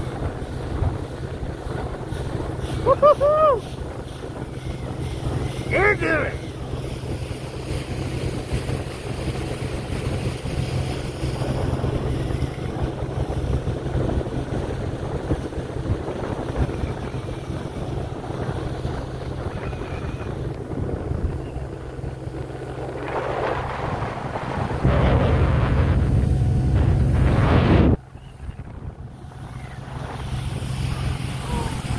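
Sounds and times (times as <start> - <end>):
boat motor: 0.0 - 31.9
water noise: 0.0 - 31.9
wind on microphone: 0.0 - 31.9.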